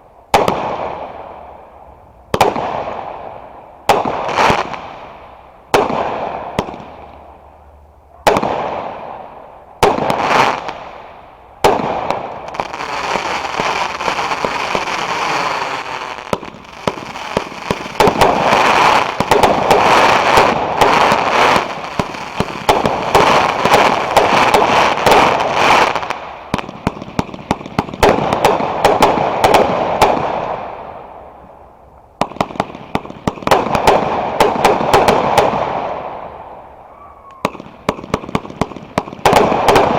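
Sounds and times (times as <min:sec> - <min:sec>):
firework crackling and pops: 0:00.0 - 0:01.3, 0:02.3 - 0:07.3, 0:08.3 - 0:31.6, 0:32.2 - 0:36.7, 0:37.3 - 0:39.9
loud firework bangs: 0:00.3 - 0:01.3, 0:02.3 - 0:03.3, 0:03.9 - 0:05.1, 0:05.7 - 0:07.1, 0:08.2 - 0:11.0, 0:11.6 - 0:31.0, 0:32.2 - 0:36.5, 0:37.3 - 0:39.9.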